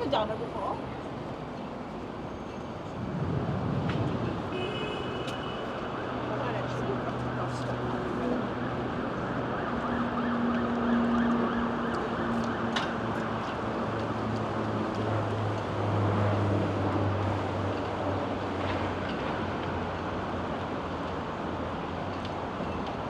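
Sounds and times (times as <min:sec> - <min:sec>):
traffic noise: 0:00.0 - 0:23.0.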